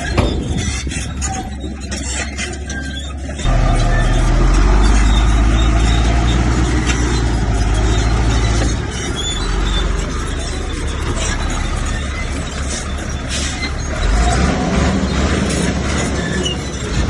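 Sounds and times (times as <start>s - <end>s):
heavy diesel engine droning: 1.0s - 17.0s.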